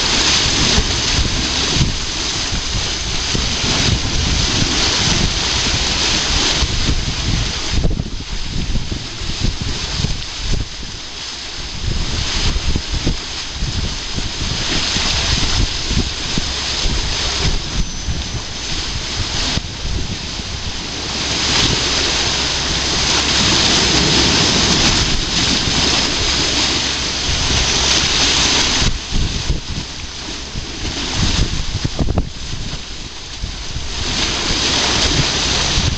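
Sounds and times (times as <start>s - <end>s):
rushing river whirlpool: 0.0s - 35.9s
wind buffeting microphone: 0.0s - 35.9s.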